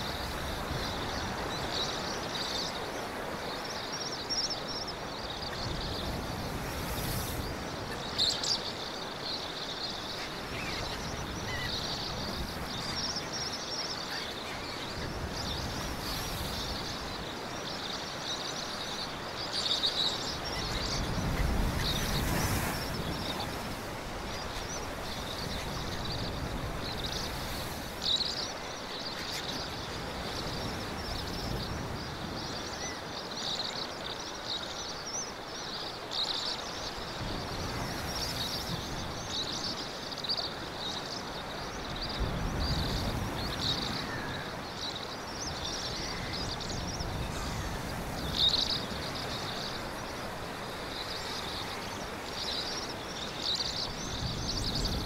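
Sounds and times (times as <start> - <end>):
sea waves: 0.0 - 55.0.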